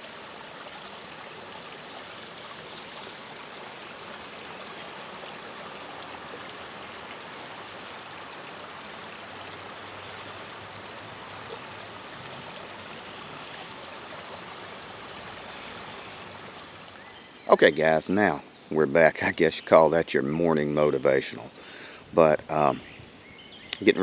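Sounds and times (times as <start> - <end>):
creek water flowing over rocks: 0.0 - 24.0.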